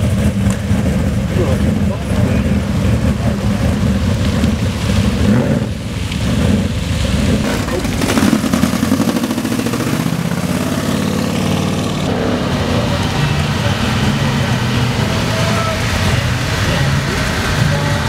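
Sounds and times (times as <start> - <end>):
cars cruising past: 0.0 - 18.0.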